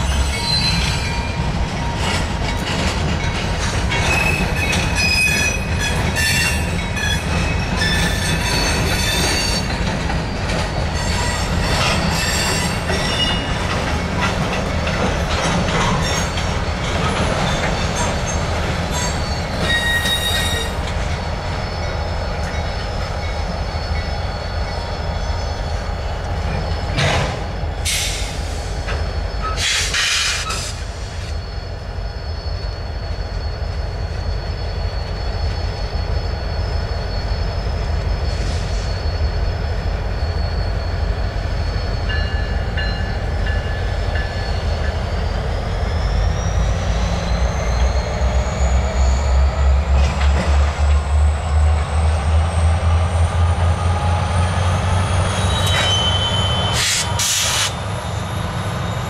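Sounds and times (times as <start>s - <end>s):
freight cars rumbling: 0.0s - 59.0s
steel wheels squealing: 0.0s - 59.0s.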